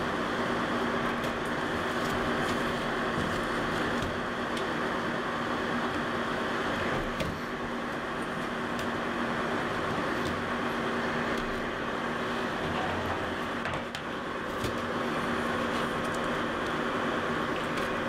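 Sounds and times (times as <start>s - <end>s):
dehydrator fan humming: 0.0s - 18.0s.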